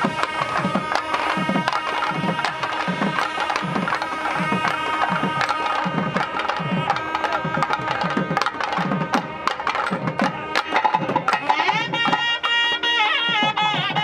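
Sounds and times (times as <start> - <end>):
double-reed pipes playing melody: 0.0 - 14.0.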